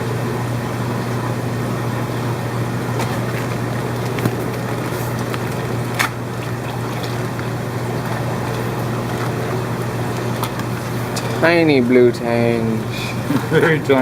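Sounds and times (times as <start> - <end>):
aquarium pumps humming: 0.0 - 14.0.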